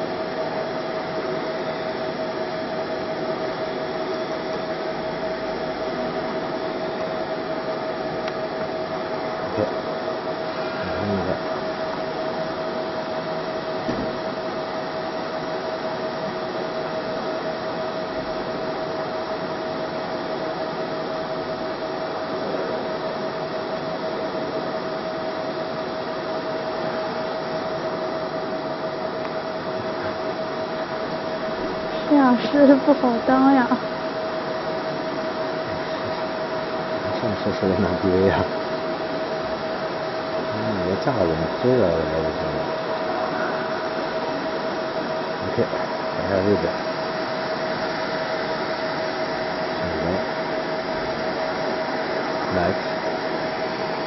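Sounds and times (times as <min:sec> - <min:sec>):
fan hiss and whine: 0:00.0 - 0:54.0.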